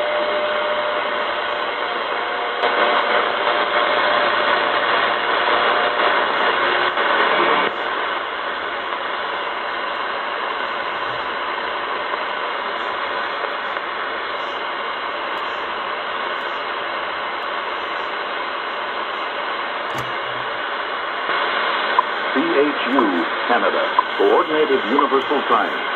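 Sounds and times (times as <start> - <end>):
radio static hiss: 0.0 - 25.9.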